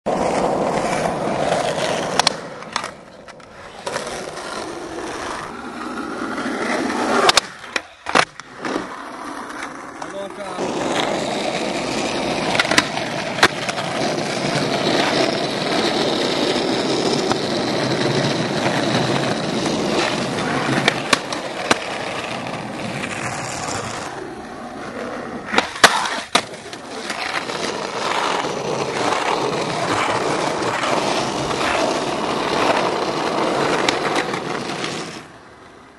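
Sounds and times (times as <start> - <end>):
skateboard wheels rolling on asphalt: 0.0 - 35.9
skateboard wooden clacks: 0.3 - 5.4, 7.1 - 24.1, 25.5 - 35.3.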